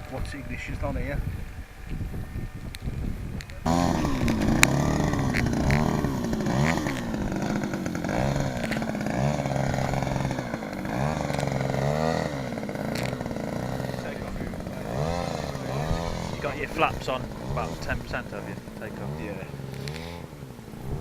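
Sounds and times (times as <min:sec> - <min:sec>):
model plane engine revving: 0:00.0 - 0:21.0.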